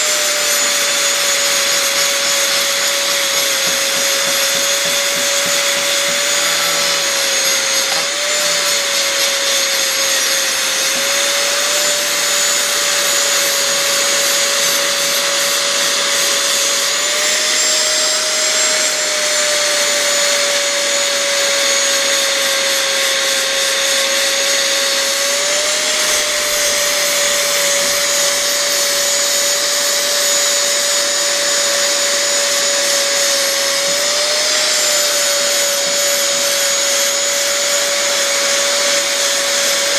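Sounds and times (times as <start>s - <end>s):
angle grinder grinding metal: 0.0s - 39.9s.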